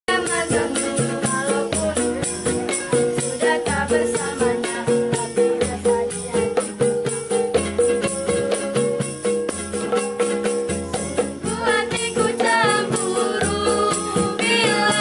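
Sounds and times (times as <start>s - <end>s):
jingling percussion: 0.1s - 15.0s.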